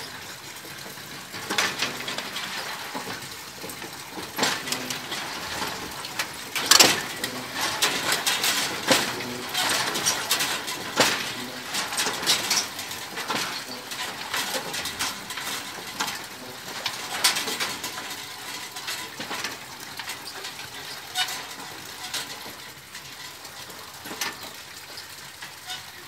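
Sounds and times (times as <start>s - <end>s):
windmill creaking and clanking: 0.0s - 26.0s.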